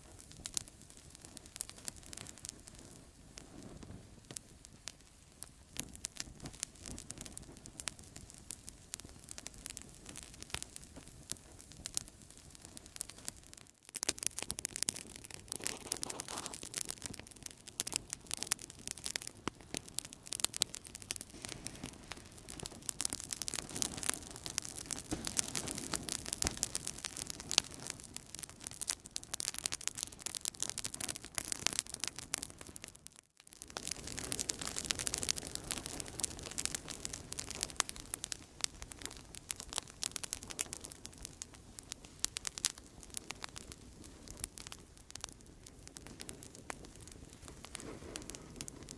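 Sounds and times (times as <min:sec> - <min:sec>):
low rumble of flame: 0:00.0 - 0:32.6, 0:33.6 - 0:48.9
campfire pops and snaps: 0:00.1 - 0:48.9.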